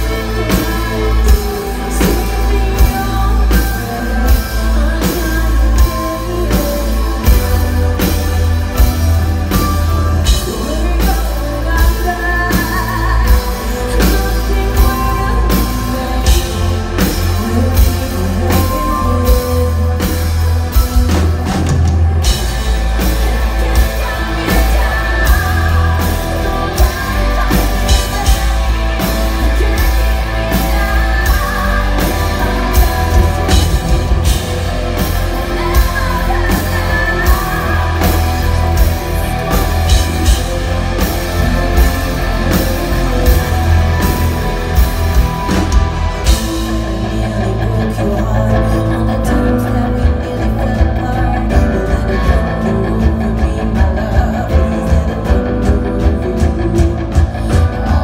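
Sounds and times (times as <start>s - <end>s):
drums and cymbals: 0.0s - 58.0s
metal band playing: 0.0s - 58.0s
woman singing: 0.0s - 58.0s.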